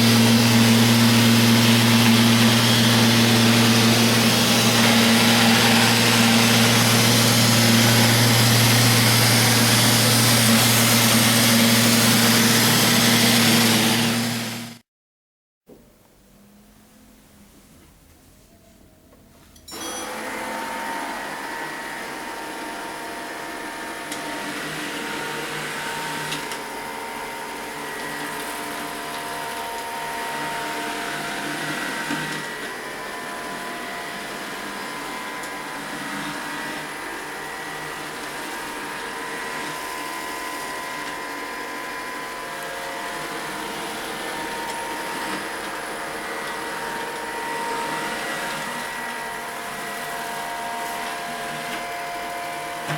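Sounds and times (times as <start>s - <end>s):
robot vacuum cleaner running: 0.0s - 14.8s, 19.7s - 52.9s.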